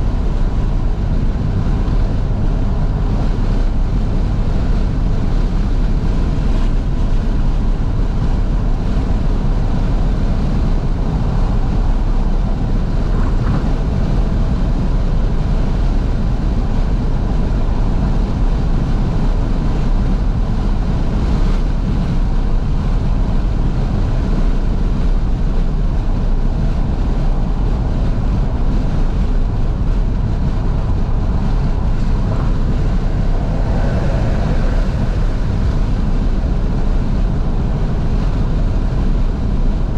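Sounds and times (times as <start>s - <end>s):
road and engine noise: 0.0s - 39.9s
wind rush through car windows: 0.0s - 39.9s.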